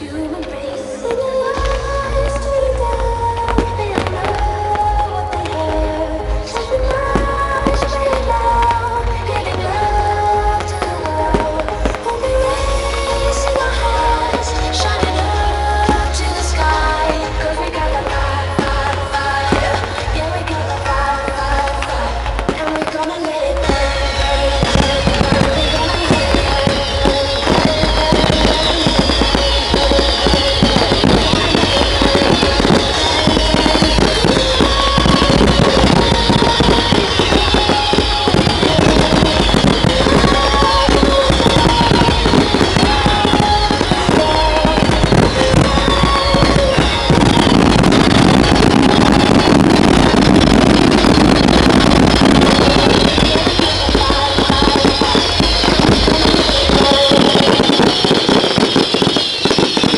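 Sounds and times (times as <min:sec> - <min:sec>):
fireworks bursting and crackling: 0:00.0 - 0:59.9
pop music over loudspeakers: 0:00.0 - 0:59.9.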